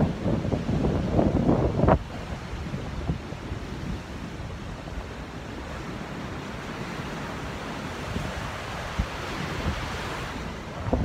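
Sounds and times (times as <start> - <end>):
ocean surf washing onto beach: 0.0 - 11.0
wind on microphone: 0.0 - 11.0.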